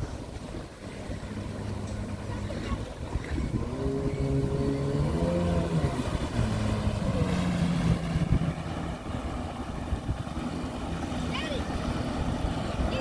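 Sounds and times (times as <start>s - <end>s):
jet ski engine: 0.0s - 13.0s
water washing: 0.0s - 13.0s
wind: 0.0s - 13.0s.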